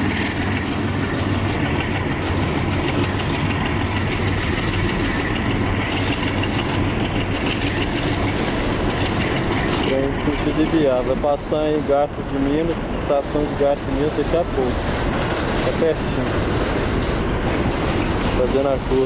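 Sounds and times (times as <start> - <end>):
train wheels clattering on rails: 0.0 - 19.0.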